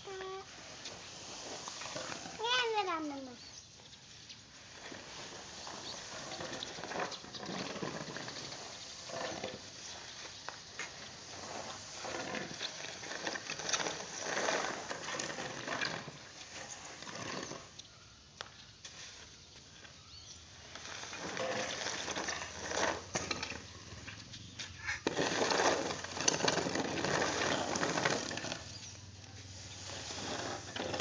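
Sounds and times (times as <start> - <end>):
rake dragging grain across floor: 0.0 - 18.0, 18.8 - 31.0.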